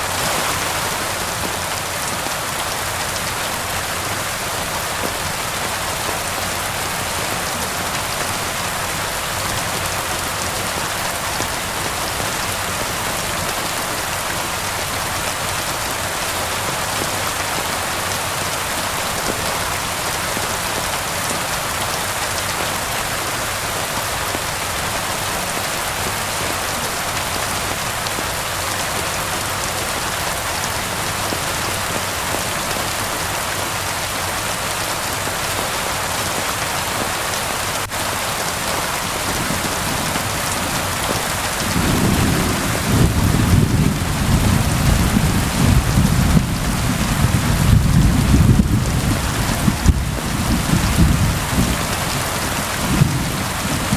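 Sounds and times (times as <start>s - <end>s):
rain pattering: 0.0s - 53.9s.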